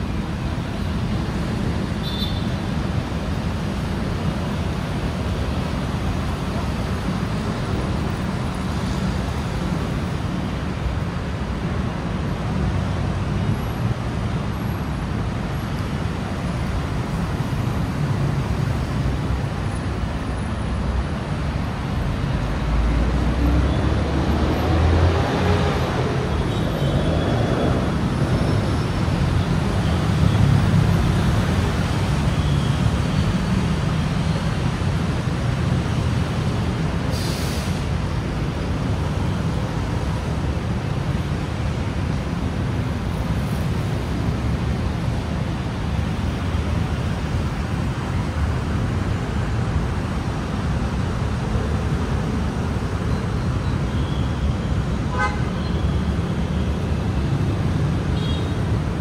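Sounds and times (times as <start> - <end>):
city road traffic: 0.0 - 59.0.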